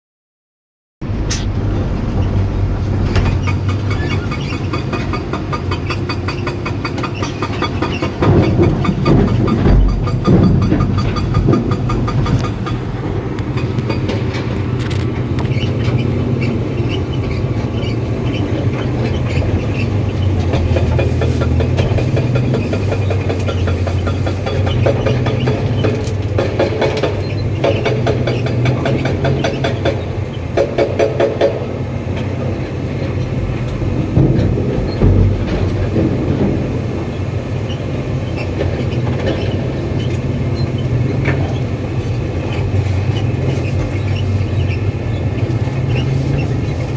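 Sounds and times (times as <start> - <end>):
diesel engine droning: 1.0 - 46.9
steel tracks clanking: 1.0 - 46.9.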